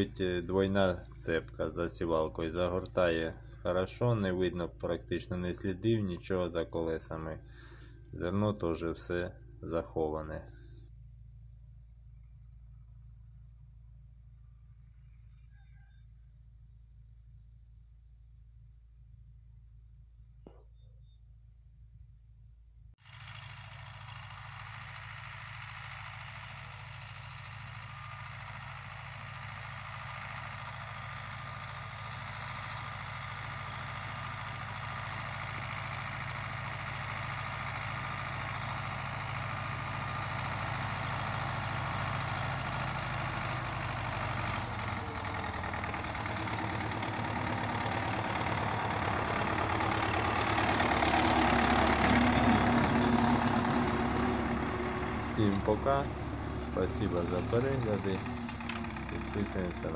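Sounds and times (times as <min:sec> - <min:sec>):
tractor diesel engine under load: 0:00.0 - 0:17.4, 0:23.0 - 0:59.9.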